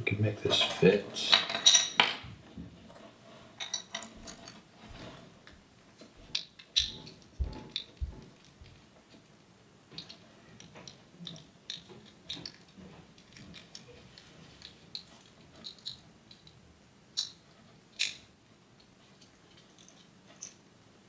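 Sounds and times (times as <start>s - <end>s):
plastic parts clicking and rattling: 2.9s - 9.3s, 9.9s - 20.6s.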